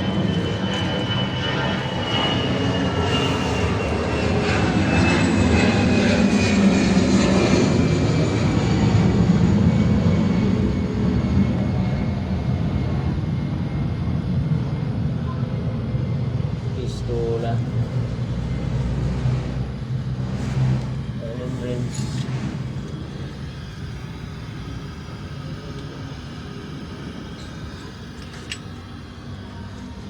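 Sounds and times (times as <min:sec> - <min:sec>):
passing engine drone with whine: 0:00.0 - 0:30.0.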